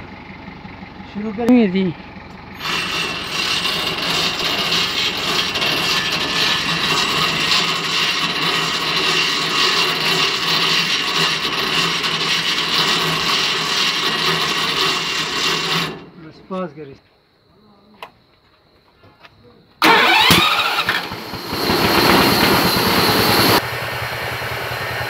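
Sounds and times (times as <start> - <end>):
petrol engine running at high speed: 0.0 - 16.0, 19.8 - 25.0.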